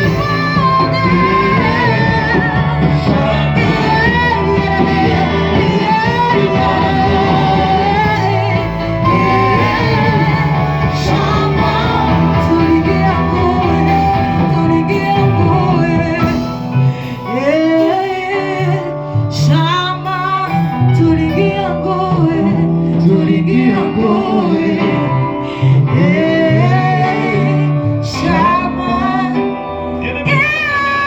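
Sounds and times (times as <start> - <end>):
band with guitar and bass: 0.0 - 31.0
voices singing worship song: 0.0 - 31.0.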